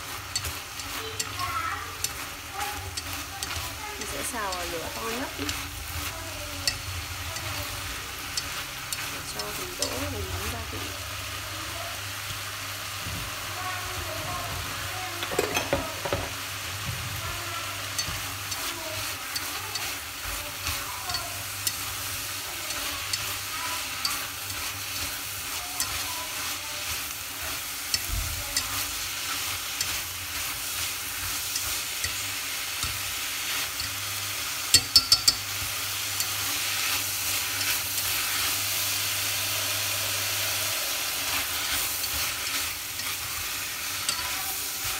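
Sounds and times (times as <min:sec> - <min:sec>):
food sizzling in a pot: 0:00.0 - 0:44.9
chopsticks clicking against pot: 0:00.1 - 0:10.1, 0:17.8 - 0:44.9.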